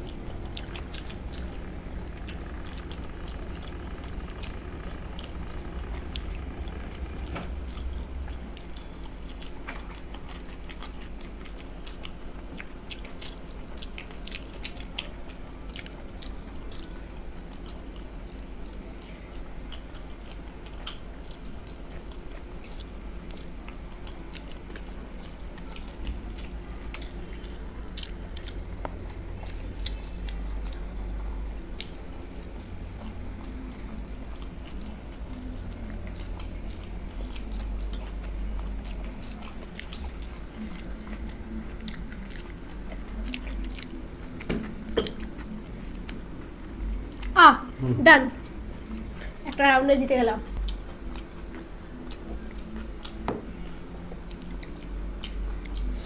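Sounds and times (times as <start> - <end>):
people chewing and biting: 0.0 - 56.0
steady high-pitched whine: 0.0 - 56.0.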